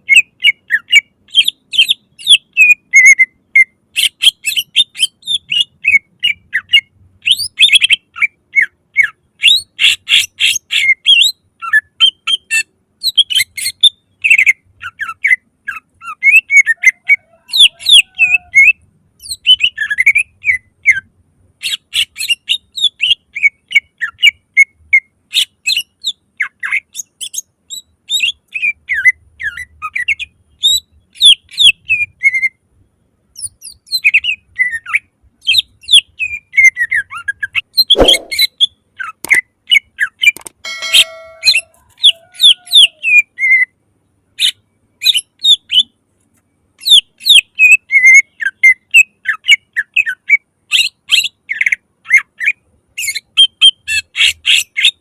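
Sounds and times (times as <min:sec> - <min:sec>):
songbird singing loudly: 0:00.0 - 0:32.6, 0:33.4 - 0:43.7, 0:44.4 - 0:46.0, 0:46.8 - 0:55.0.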